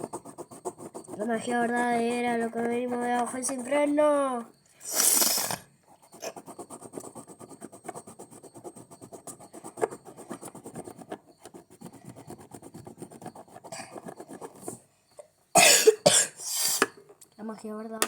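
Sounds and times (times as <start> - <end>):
pencil scratching on paper: 0.0 - 14.8.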